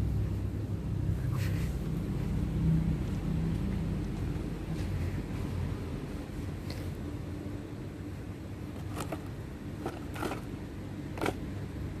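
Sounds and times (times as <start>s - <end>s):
low hum of shop interior: 0.0s - 12.0s.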